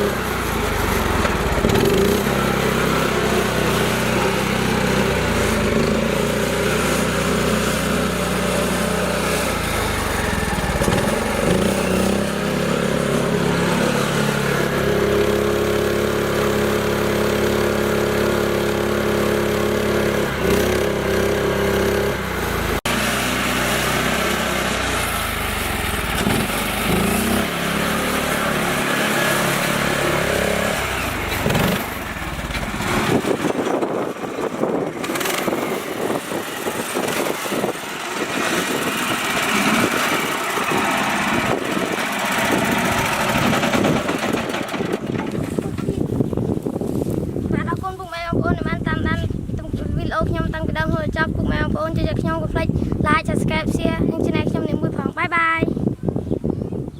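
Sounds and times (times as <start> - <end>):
small tractor engine running: 0.0 - 47.7.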